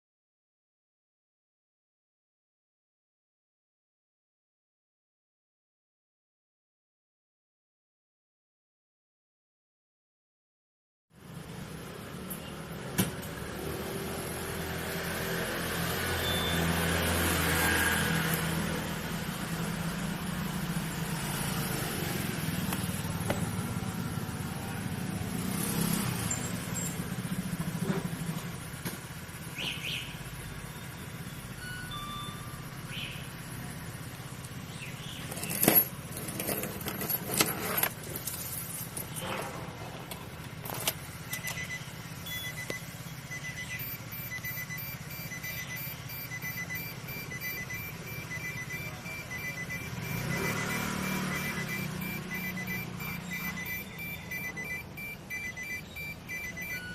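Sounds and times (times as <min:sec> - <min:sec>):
car engine low rumble: 0:11.2 - 0:56.9.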